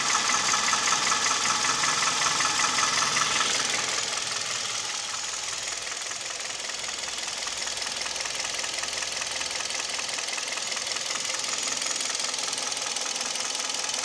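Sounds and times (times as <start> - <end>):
engine running with rapid knocking: 0.0 - 14.0.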